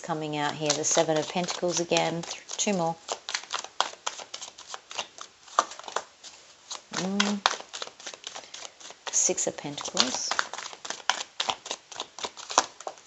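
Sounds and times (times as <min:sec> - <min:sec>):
cards being shuffled: 0:00.6 - 0:13.0.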